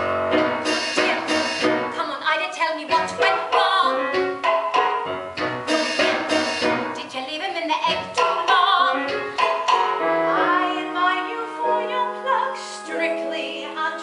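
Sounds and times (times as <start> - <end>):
instrumental accompaniment: 0.0 - 2.2, 2.9 - 14.0
person singing with vibrato: 0.6 - 4.2, 5.7 - 14.0.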